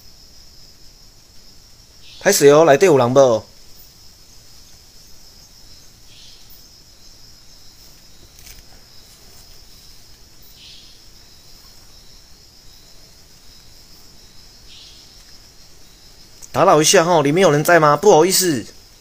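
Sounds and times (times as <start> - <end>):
low insect buzz: 0.0 - 19.0
night insects trilling: 0.0 - 19.0.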